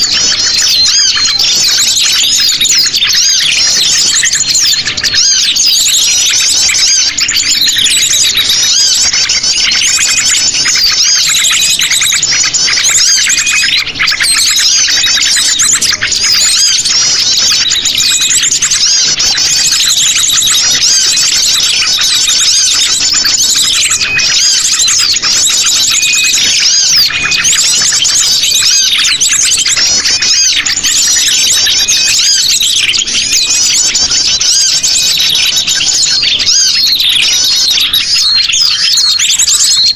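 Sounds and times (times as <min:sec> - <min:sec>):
chorus of chirping birds: 0:00.0 - 0:39.9.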